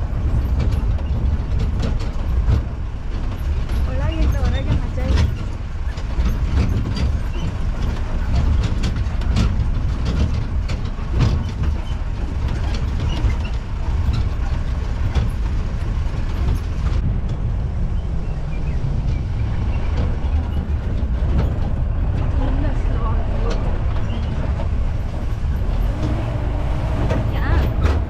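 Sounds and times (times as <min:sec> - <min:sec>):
body rattling and knocking: 0:00.0 - 0:28.0
engine and tyre rumble: 0:00.0 - 0:28.0.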